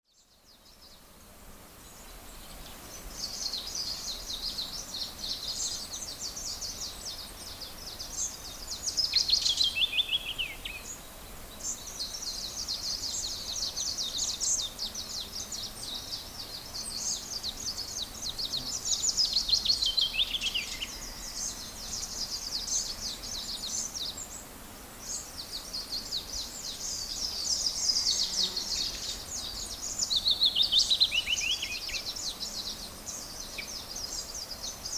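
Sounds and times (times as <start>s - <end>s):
songbirds twittering: 0.0s - 34.9s.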